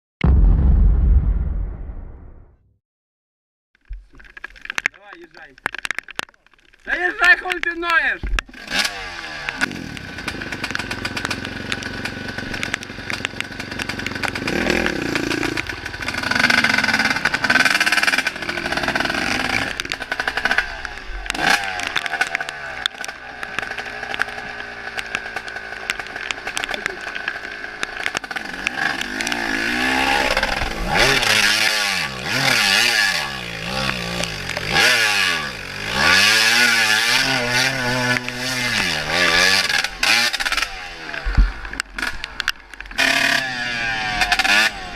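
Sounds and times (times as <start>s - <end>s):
dirt bike engine revving: 8.5s - 44.9s.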